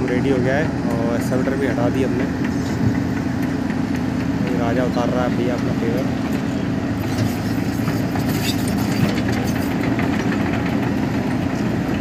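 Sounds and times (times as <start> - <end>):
heavy diesel engines running: 0.0 - 12.0.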